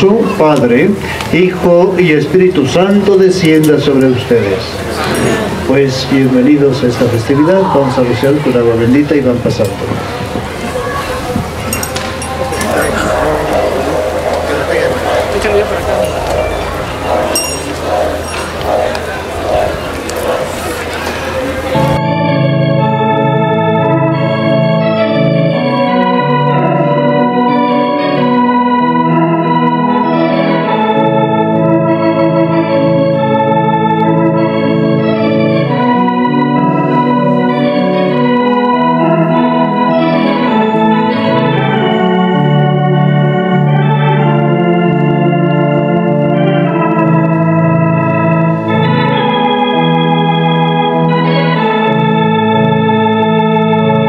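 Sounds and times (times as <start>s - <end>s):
slow organ melody: 0.0s - 9.8s, 11.5s - 54.0s.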